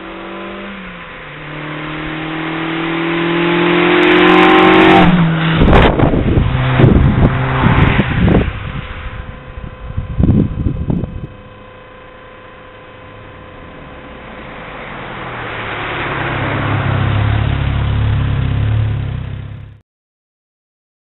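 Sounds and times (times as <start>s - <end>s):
car driving past: 0.0s - 19.8s.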